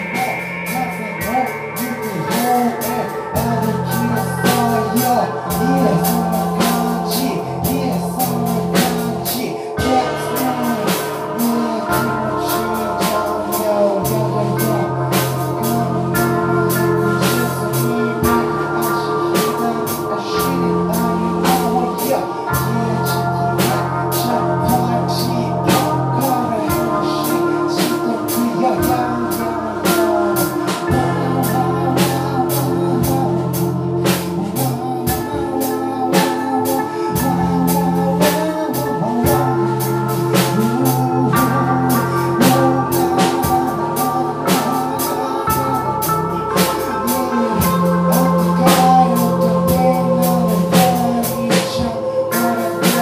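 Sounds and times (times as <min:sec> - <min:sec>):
drum kit with cymbals: 0:00.0 - 0:53.0
guitar and keyboard tones: 0:00.0 - 0:53.0
low bass line: 0:00.0 - 0:53.0.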